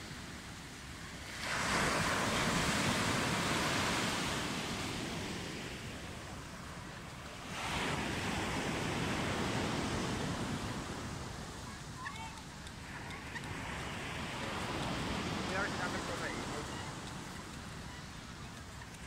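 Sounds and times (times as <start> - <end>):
small waves breaking on sand: 0.0 - 19.0.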